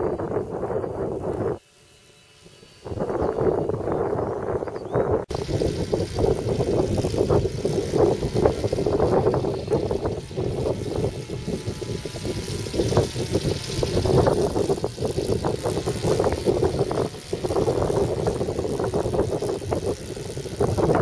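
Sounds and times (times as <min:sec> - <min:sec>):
gyrocopter engine and propeller droning: 0:00.0 - 0:21.0.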